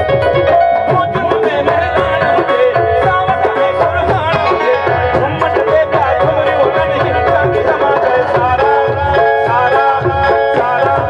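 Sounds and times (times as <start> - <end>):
hand drums: 0.0 - 11.0
sustained pitched accompaniment: 0.0 - 11.0
man singing: 0.3 - 11.0.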